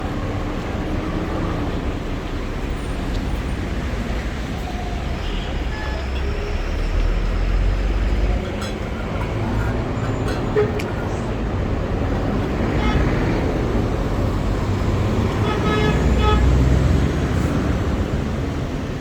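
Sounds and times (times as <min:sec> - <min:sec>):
heavy vehicle rumble: 0:00.0 - 0:19.0
street traffic: 0:00.0 - 0:19.0.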